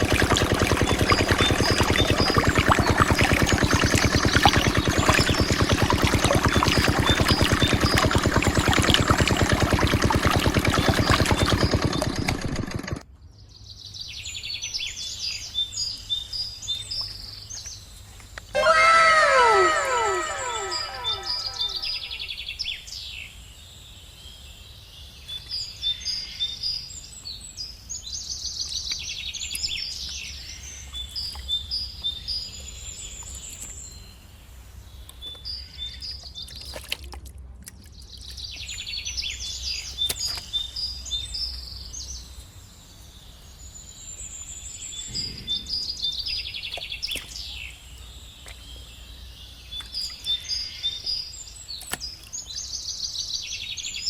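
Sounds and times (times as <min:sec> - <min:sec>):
small birds chirping and trilling: 0:00.0 - 0:12.8, 0:13.4 - 0:37.1, 0:37.8 - 0:54.0.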